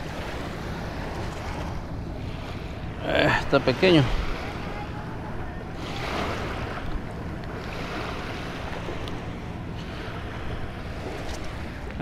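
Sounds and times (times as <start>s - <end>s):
waves washing onto beach: 0.0s - 12.0s.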